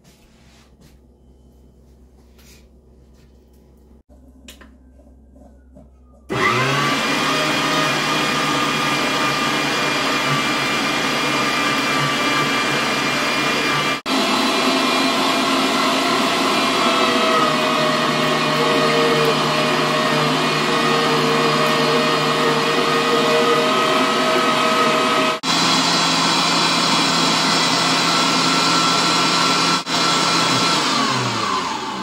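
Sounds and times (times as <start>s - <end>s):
blender motor whirring: 6.3s - 32.0s.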